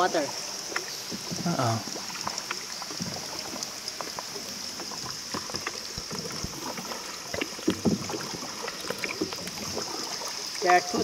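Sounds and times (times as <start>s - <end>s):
small splashes and knocks: 0.0s - 11.0s
water drips: 0.0s - 11.0s.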